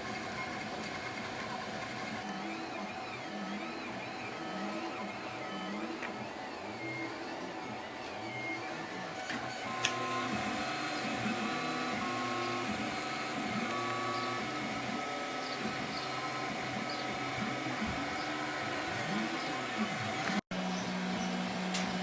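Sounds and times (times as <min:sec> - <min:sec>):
printer stepper motors whirring: 0:00.0 - 0:22.0.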